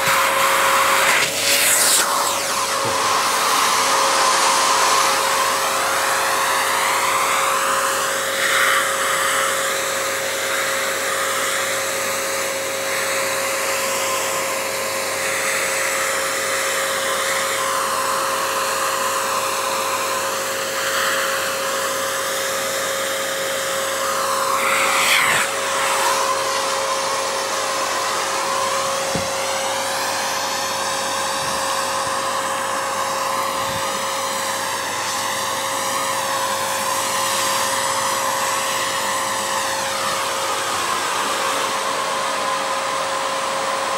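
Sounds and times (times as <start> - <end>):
vacuum cleaner whining: 0.0 - 43.9.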